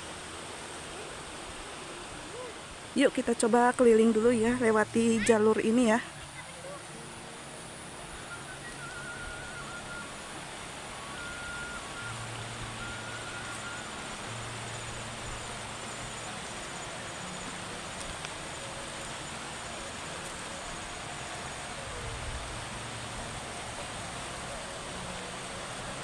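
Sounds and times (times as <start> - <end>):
insect trill: 0.0 - 26.0
steady outdoor hiss: 0.0 - 26.0.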